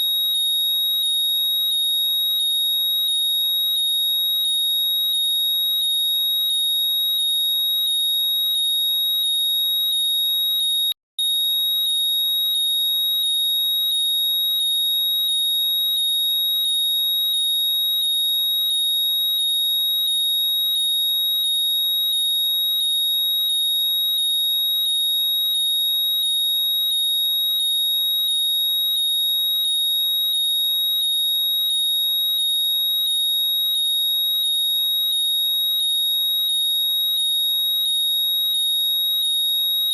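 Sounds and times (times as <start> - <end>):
high-pitched alarm tone with chirps: 0.0 - 39.9.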